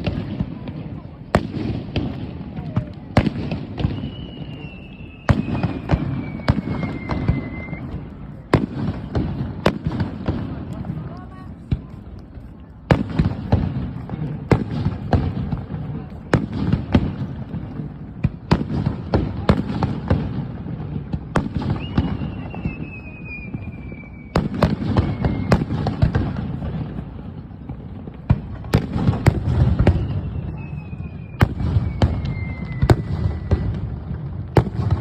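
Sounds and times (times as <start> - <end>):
firework bangs: 0.0 - 12.1, 12.8 - 35.0
firework crackling: 0.0 - 35.0.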